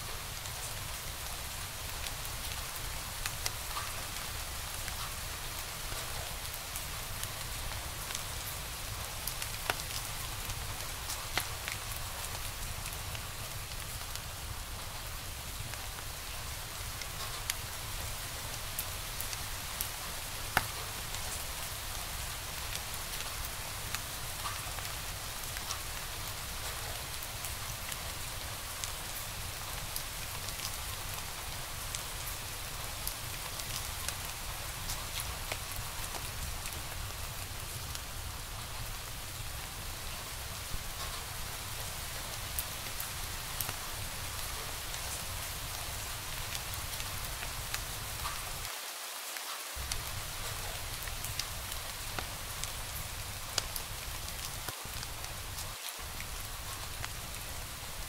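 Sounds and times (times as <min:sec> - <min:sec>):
wood fire crackling: 0:00.1 - 0:48.7, 0:49.8 - 0:58.0.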